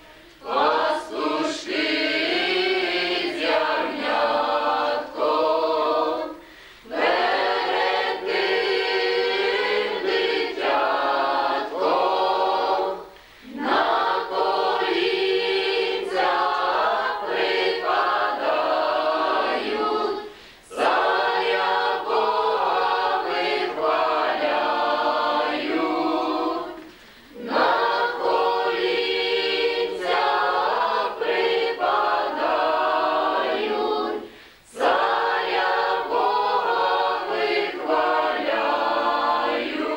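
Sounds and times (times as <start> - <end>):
group singing a carol unaccompanied: 0.0 - 39.9.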